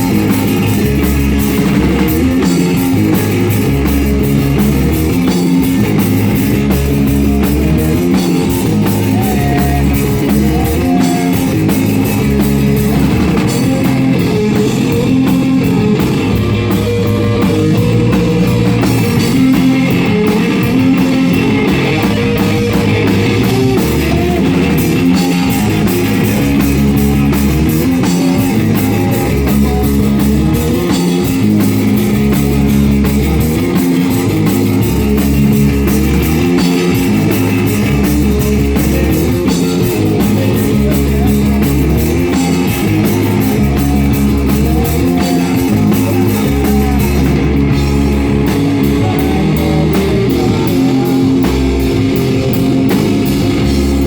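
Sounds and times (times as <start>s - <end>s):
bass guitar: 0.0s - 54.0s
drum kit: 0.0s - 54.0s
guitar: 0.0s - 54.0s
rock band playing live: 0.0s - 54.0s.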